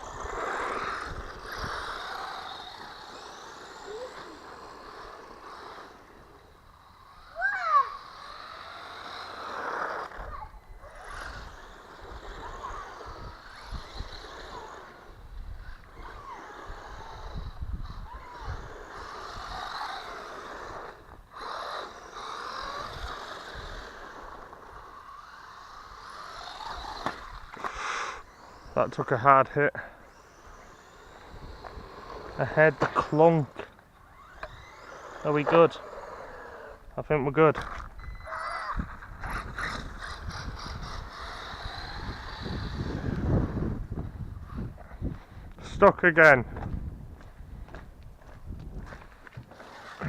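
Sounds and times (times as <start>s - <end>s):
rc car motor whine: 0.0s - 46.8s, 48.9s - 50.0s.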